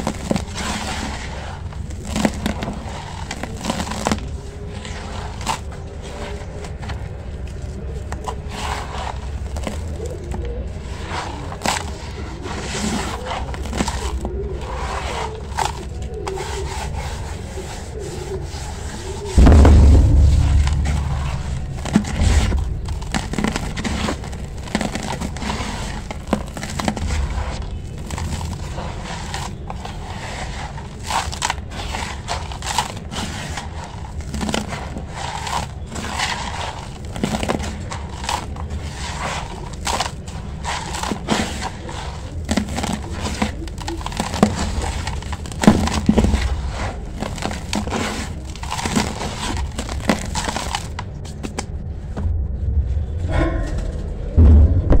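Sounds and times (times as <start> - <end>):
dry cement mix crunching by hand: 0.0 - 52.2.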